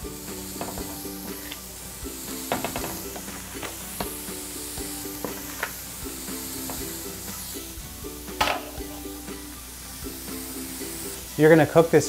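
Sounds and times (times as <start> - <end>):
background music: 0.0 - 12.0
patties sizzling on a griddle: 0.0 - 12.0.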